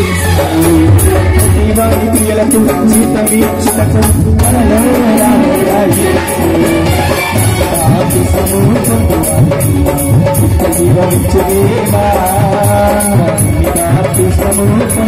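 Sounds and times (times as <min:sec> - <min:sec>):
keyboard melody: 0:00.0 - 0:15.0
tabla playing fast rhythm: 0:00.0 - 0:15.0.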